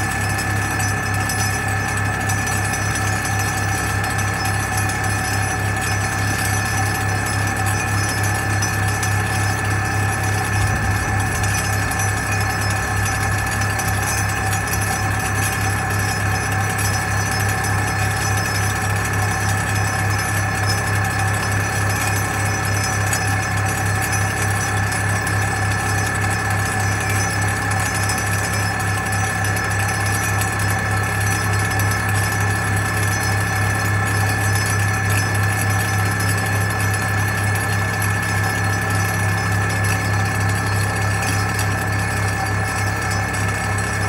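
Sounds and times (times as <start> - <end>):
steady high whine: 0.0 - 44.0
vibratory pile hammer pulsing drone: 0.0 - 44.0.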